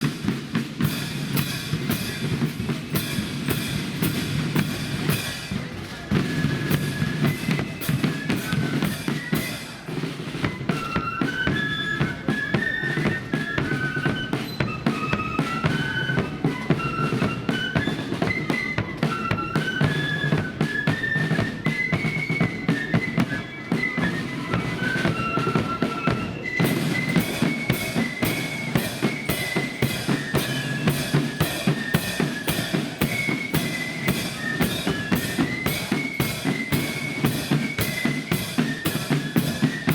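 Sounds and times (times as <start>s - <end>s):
flutes playing a tune: 0.0s - 39.9s
snare and bass drums: 0.0s - 39.9s.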